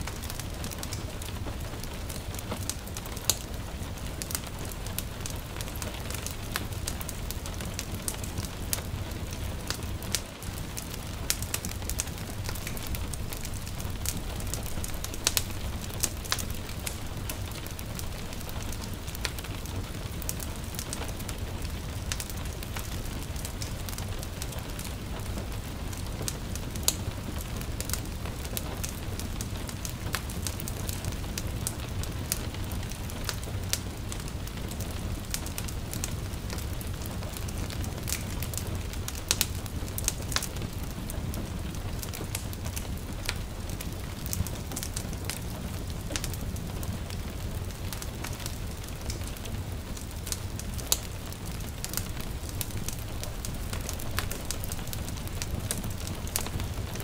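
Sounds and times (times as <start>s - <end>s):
crackling wood fire: 0.0s - 57.0s
light rain hissing: 0.0s - 57.0s.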